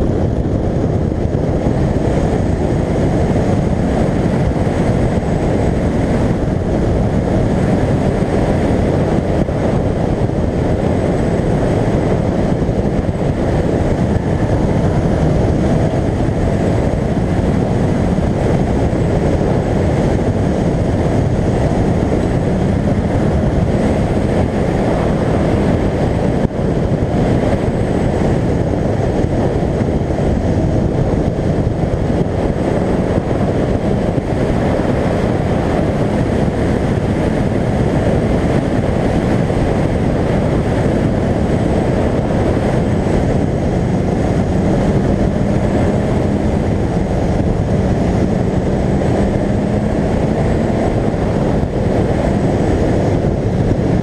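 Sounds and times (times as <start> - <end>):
car engine running: 0.0 - 54.0
wind rushing on microphone: 0.0 - 54.0.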